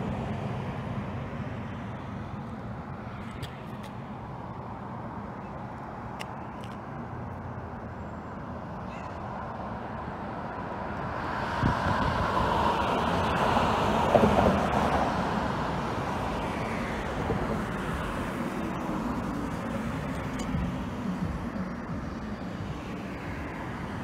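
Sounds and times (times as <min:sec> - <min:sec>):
steady traffic noise: 0:00.0 - 0:24.0.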